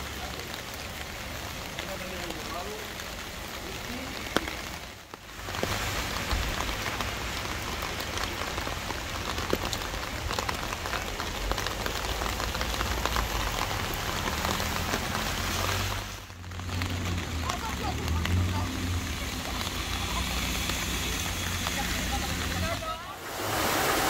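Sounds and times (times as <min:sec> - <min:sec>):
rain falling on water and pavement: 0:00.0 - 0:24.0.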